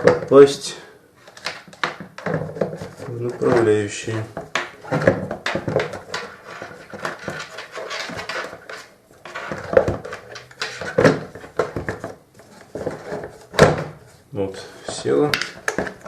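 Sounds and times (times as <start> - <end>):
plastic knocks and clatter: 0.0 - 0.4, 1.3 - 14.1, 14.9 - 16.0.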